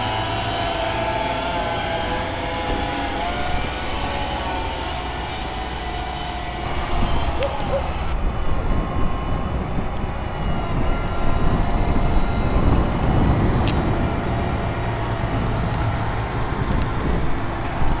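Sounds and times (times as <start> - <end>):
faint steady tones: 0.0 - 18.0
harvester low rumble: 0.0 - 18.0.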